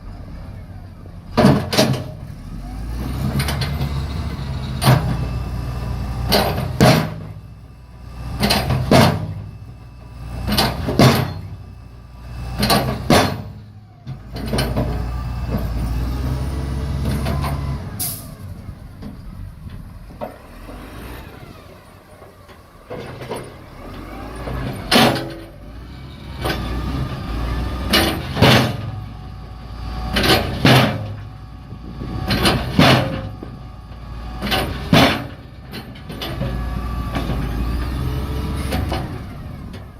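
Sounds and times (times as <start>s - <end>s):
heavy engine droning: 0.0s - 39.9s.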